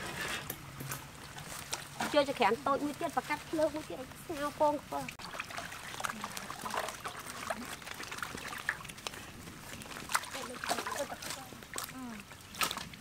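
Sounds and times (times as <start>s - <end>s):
water splashing in metal basin: 1.1s - 13.0s.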